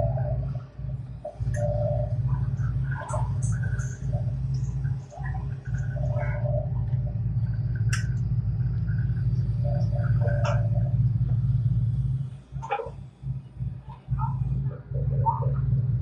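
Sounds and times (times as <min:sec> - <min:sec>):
heavy machine engine rumbling: 0:00.0 - 0:16.0.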